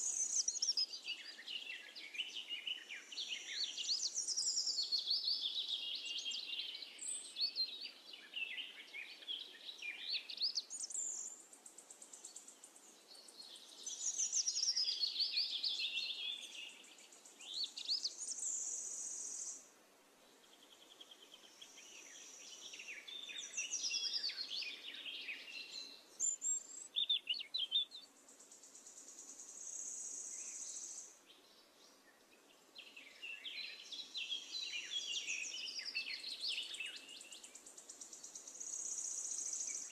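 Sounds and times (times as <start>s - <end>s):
birds chirping and warbling: 0.0s - 39.9s.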